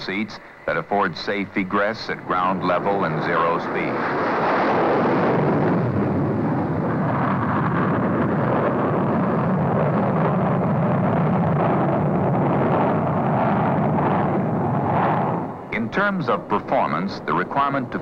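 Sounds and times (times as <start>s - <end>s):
jet engines at full power: 0.0s - 18.0s.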